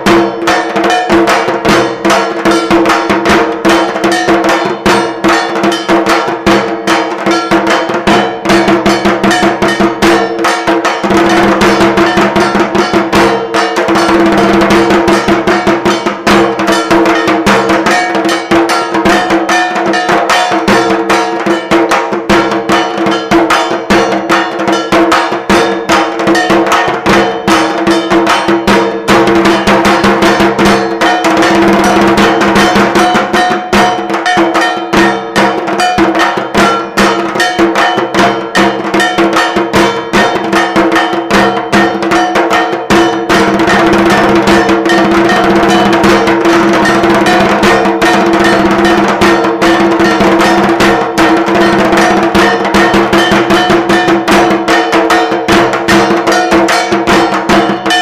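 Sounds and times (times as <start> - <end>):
bells and gongs clanging: 0.0 - 58.0
drumming: 0.0 - 58.0.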